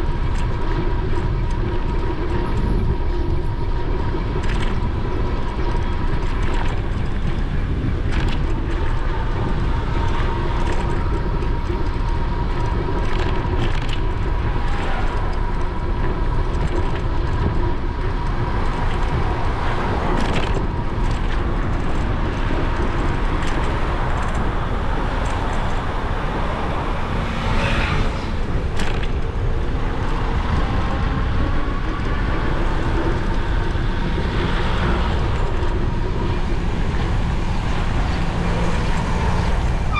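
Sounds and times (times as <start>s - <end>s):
road rumble: 0.0s - 39.9s
traffic passing: 0.0s - 39.9s
wind buffeting camera: 0.0s - 39.9s.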